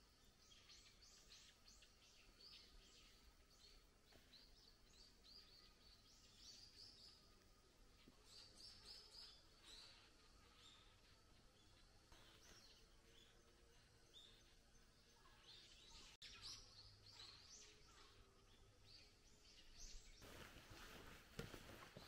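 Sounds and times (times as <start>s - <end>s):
faint high bird chirps: 0.0s - 20.9s
quiet forest ambience: 0.0s - 22.0s.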